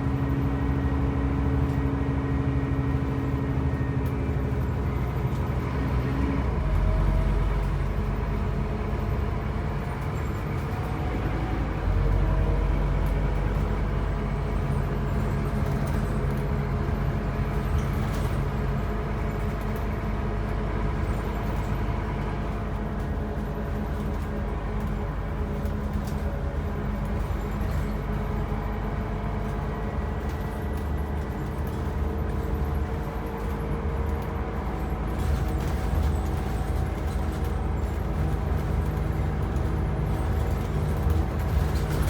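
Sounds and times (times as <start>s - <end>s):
bus diesel engine droning: 0.0s - 42.0s
road noise: 0.0s - 42.0s.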